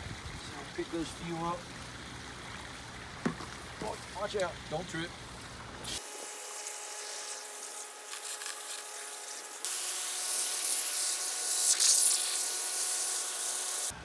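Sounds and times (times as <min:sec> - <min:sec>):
hose nozzle spraying water: 0:00.4 - 0:13.9.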